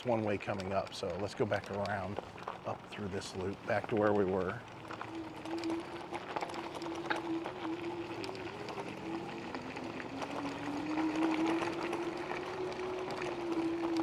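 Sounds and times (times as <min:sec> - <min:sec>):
electric scooter motor whining: 0:00.0 - 0:14.0
tyres crackling over gravel: 0:00.0 - 0:14.0.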